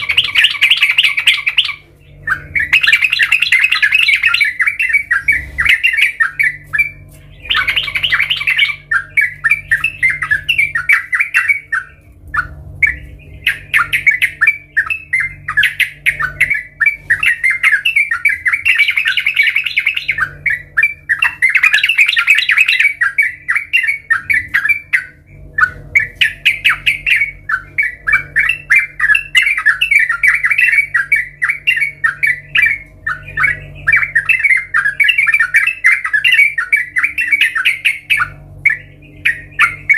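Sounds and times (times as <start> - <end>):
bird singing chattering notes: 0.0 - 39.9
faint low hum: 0.0 - 39.9.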